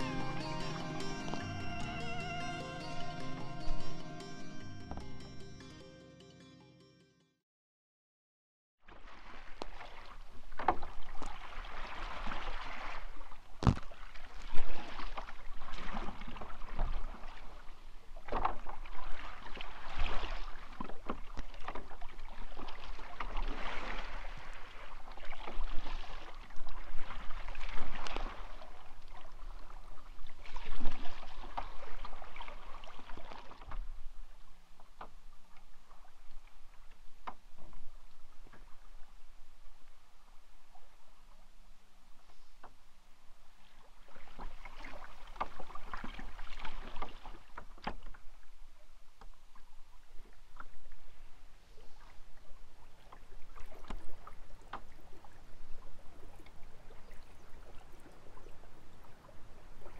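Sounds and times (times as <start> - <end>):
paddle swishing through water: 8.8 - 59.9.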